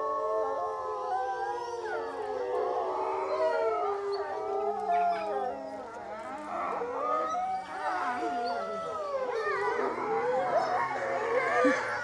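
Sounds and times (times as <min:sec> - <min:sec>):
deeper howl: 0:00.0 - 0:12.0
wolves howling in chorus: 0:00.0 - 0:12.0.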